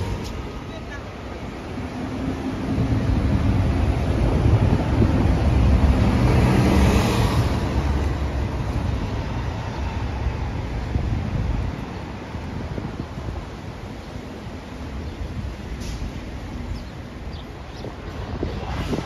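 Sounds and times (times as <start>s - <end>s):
diesel bus driving past: 0.0s - 19.0s
street traffic: 0.0s - 19.0s.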